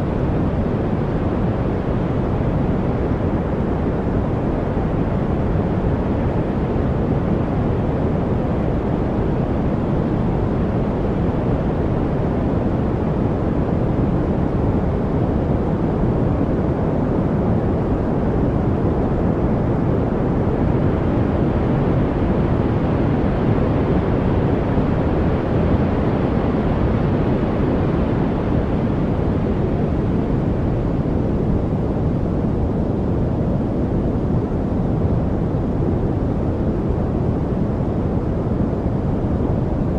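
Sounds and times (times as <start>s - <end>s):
low white noise: 0.0s - 39.9s.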